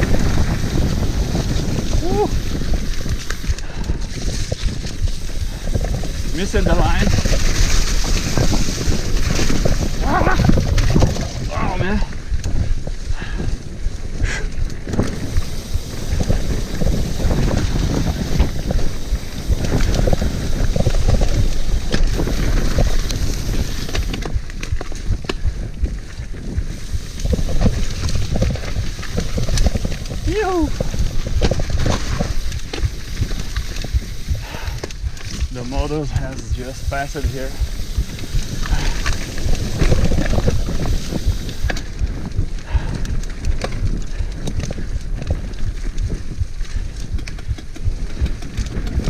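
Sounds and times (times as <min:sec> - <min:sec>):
bike rattling over ground: 0:00.0 - 0:49.0
wind buffeting microphone: 0:00.0 - 0:49.0.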